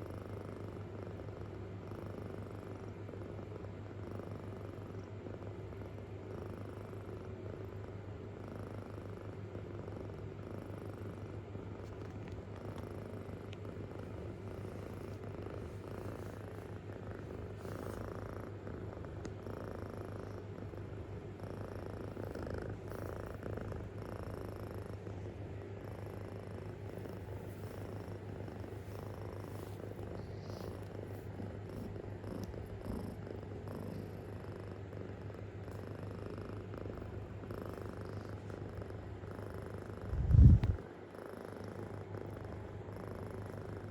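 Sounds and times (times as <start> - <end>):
kitten purring: 0.0 - 43.9.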